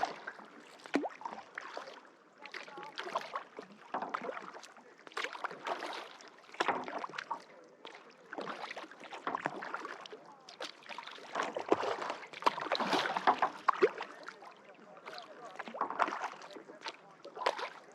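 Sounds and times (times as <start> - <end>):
kayak paddle splashing water: 0.0 - 17.9.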